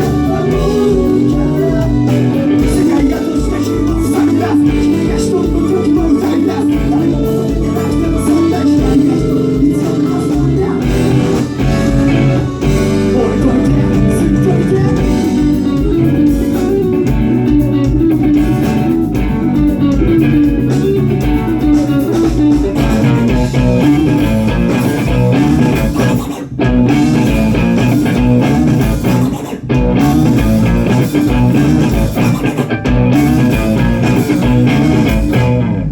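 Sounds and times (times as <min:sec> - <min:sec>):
bass guitar: 0:00.0 - 0:35.9
guitar: 0:00.0 - 0:35.9.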